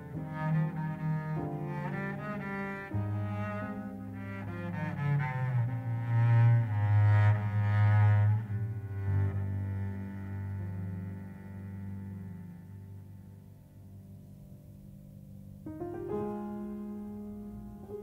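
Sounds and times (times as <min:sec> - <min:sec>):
bowed double bass: 0:00.0 - 0:18.0.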